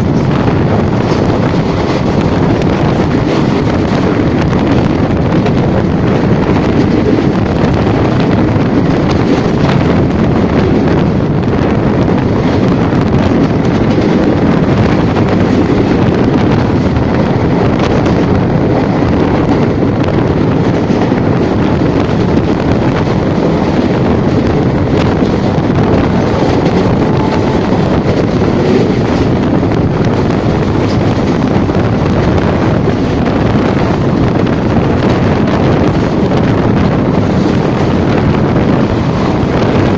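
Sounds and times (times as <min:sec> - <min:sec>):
train running: 0:00.0 - 0:39.9
wind buffeting microphone: 0:00.0 - 0:39.9.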